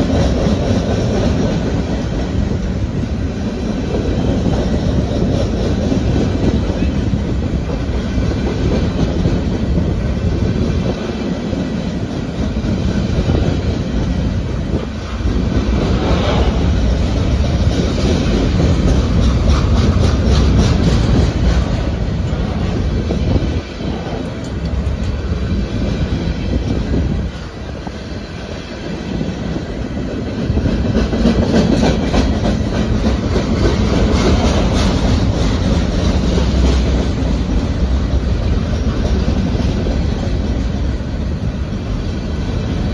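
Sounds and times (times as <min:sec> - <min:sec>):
wheels clacking over rail joints: 0:00.0 - 0:28.7, 0:29.5 - 0:42.9
train wheels rumbling on rails: 0:00.0 - 0:42.9.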